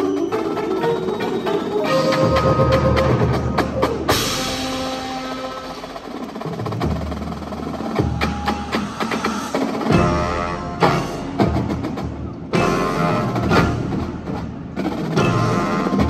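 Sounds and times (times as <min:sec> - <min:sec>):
drum corps percussion music: 0:00.0 - 0:16.0
drum and mallet strikes: 0:01.9 - 0:16.0.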